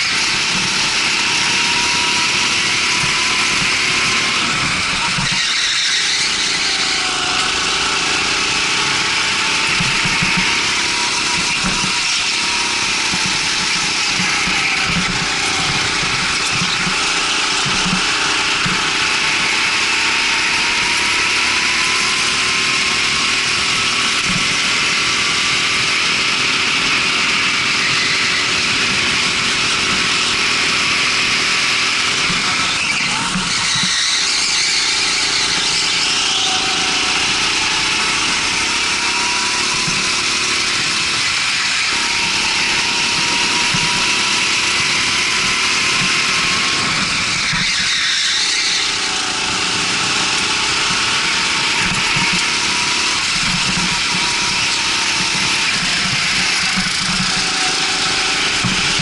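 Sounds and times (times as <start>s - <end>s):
go-kart engine running hard: 0.0s - 59.0s
tyre squeal: 0.0s - 59.0s.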